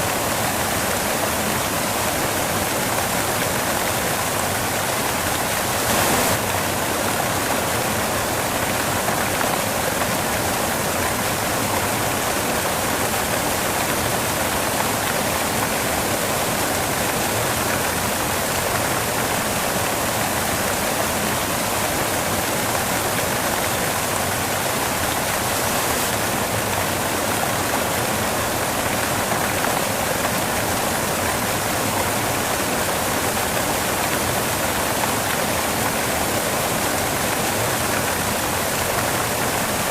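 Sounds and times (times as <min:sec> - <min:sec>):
steady white noise: 0:00.0 - 0:39.9.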